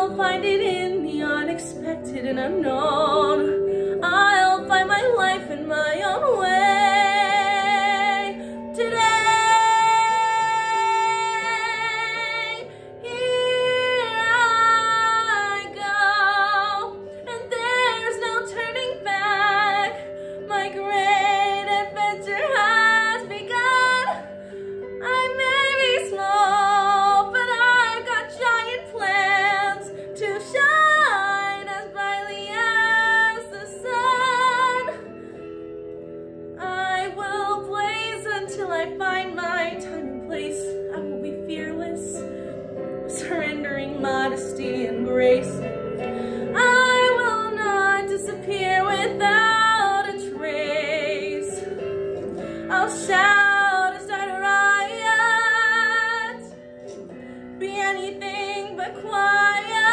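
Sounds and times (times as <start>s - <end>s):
instrumental backing track: 0.0s - 59.9s
woman singing a ballad: 0.0s - 59.9s.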